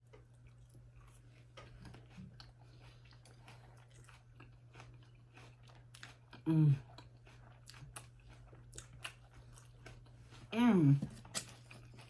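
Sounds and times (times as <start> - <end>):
low electrical hum: 0.0 - 12.0
person chewing food: 0.0 - 12.0.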